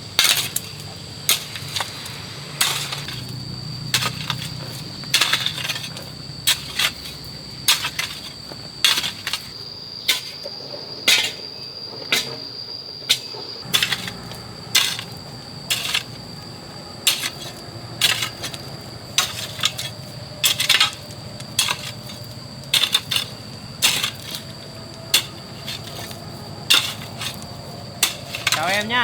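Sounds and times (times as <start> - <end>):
insects trilling: 0.0 - 29.0
metal hoe chopping soil: 0.2 - 3.3, 3.9 - 10.4, 13.6 - 16.2, 17.0 - 29.0.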